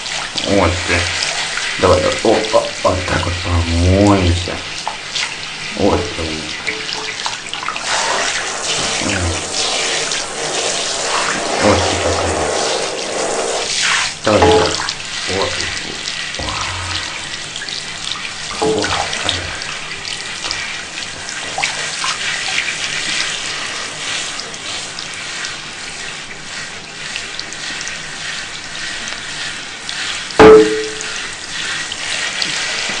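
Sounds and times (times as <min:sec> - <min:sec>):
tap water splashing into sink: 0:00.0 - 0:25.1, 0:29.9 - 0:33.0
water splashing on cat: 0:00.0 - 0:33.0.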